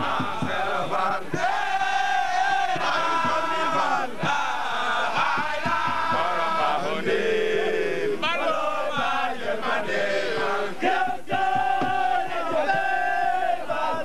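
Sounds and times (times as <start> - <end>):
men chanting devotional song: 0.0 - 14.0.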